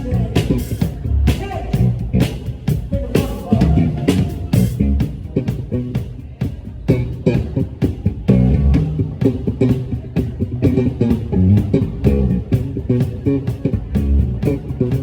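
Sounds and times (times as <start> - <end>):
bass guitar: 0.0 - 15.0
electric guitar: 0.0 - 15.0
steady drum beat: 0.0 - 15.0.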